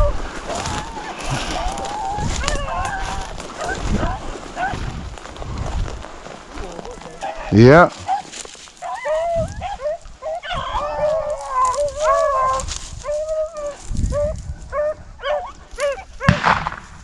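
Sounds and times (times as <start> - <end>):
hounds baying and yelping: 0.0 - 5.0, 7.1 - 16.4.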